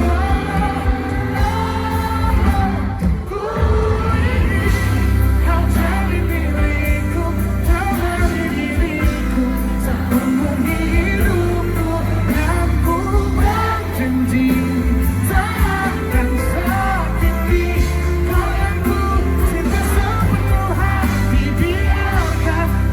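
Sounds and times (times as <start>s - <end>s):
bass and drum beat: 0.0s - 22.9s
person singing: 0.0s - 22.9s.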